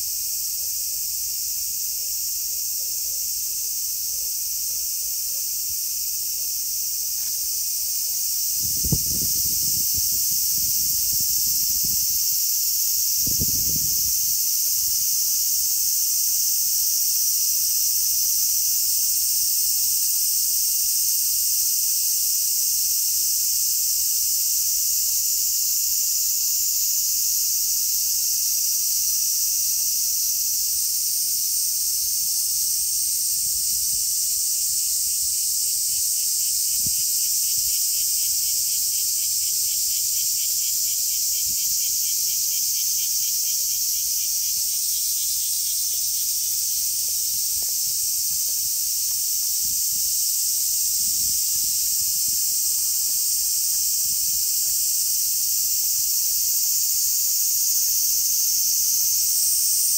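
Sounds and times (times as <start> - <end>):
cicadas chorus: 0.0 - 59.9
rhythmic pulsing insect call: 0.0 - 59.9.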